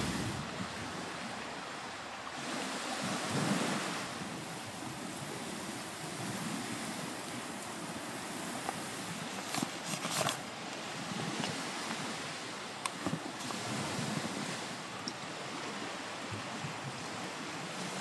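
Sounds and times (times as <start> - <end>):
small waves washing on shore: 0.0 - 18.0
wind on microphone: 0.0 - 18.0.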